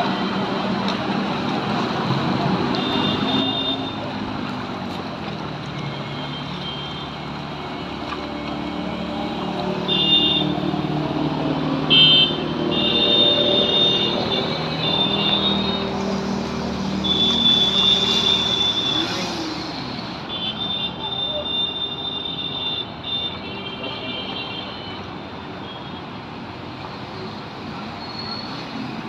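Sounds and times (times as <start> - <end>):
vehicle engines passing: 0.0 - 21.5, 26.1 - 29.0.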